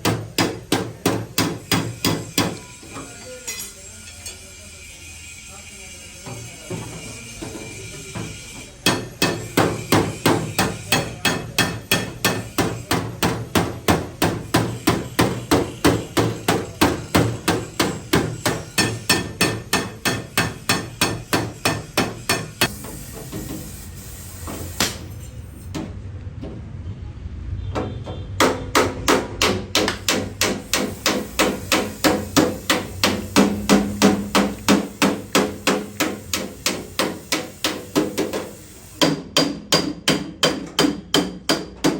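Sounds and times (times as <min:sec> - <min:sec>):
hammer beating sheet metal: 0:00.0 - 0:02.8, 0:06.7 - 0:23.8, 0:27.8 - 0:41.9.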